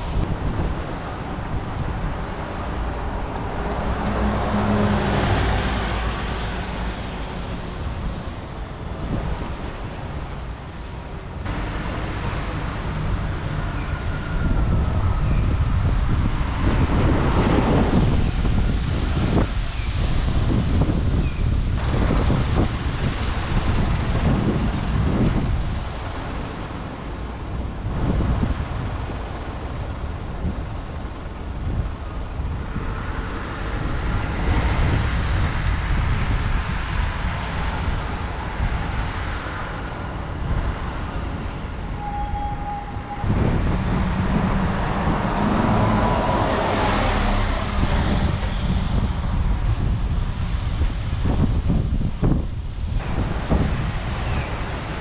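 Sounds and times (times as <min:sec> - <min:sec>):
bus accelerating away: 0:00.0 - 0:55.0
buses driving past: 0:00.0 - 0:55.0.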